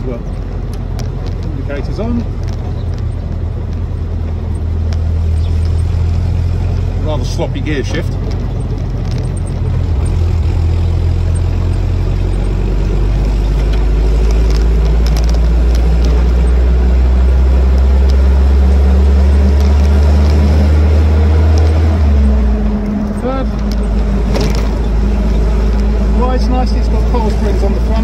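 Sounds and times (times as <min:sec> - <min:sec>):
car engine droning: 0:00.0 - 0:28.0
wind and road noise: 0:00.0 - 0:28.0.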